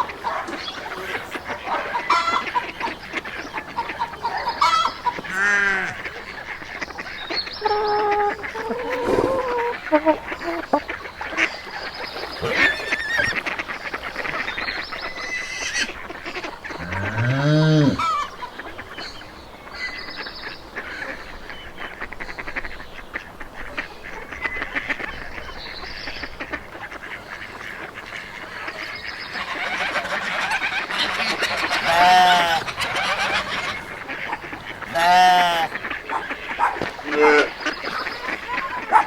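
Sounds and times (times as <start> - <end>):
geese honking: 0.0 - 19.0, 19.8 - 39.0.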